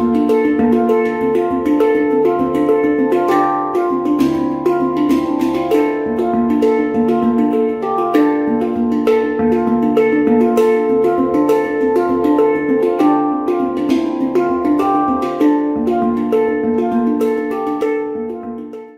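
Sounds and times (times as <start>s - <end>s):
instrumental music with plucked notes: 0.0s - 18.9s.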